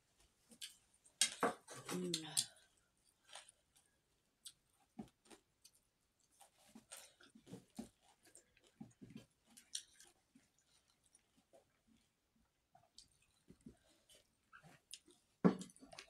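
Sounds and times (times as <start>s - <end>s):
person chewing food: 2.5s - 16.0s.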